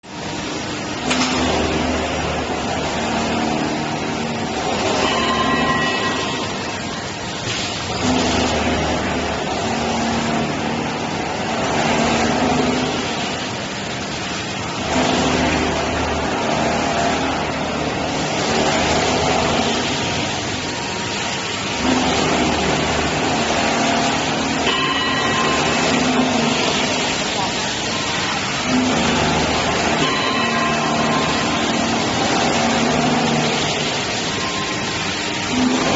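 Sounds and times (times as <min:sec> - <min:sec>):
cnc machine machining metal: 0:00.0 - 0:35.9.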